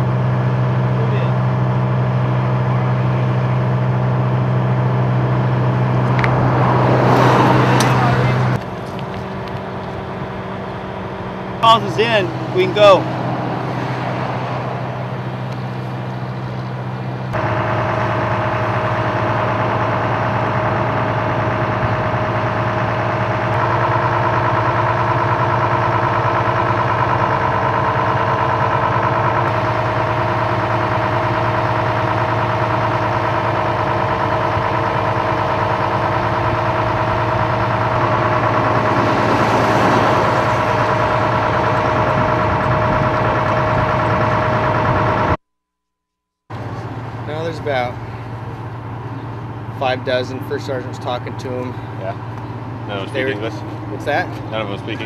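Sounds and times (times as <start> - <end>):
vehicle engine idling: 0.0 - 45.4, 46.5 - 55.0.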